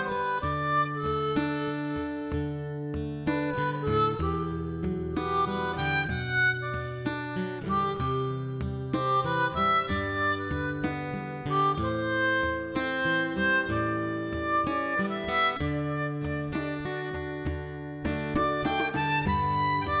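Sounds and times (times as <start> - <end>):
reedy melody over plucked strings: 0.0 - 20.0.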